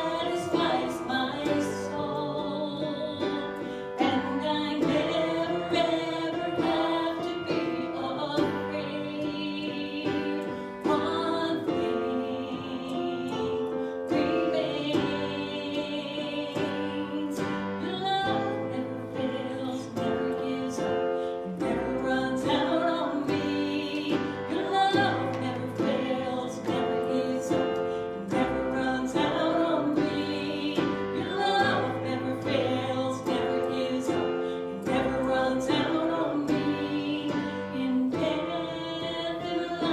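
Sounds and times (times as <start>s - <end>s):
group of voices singing: 0.0s - 39.9s
instrumental accompaniment: 0.0s - 39.9s.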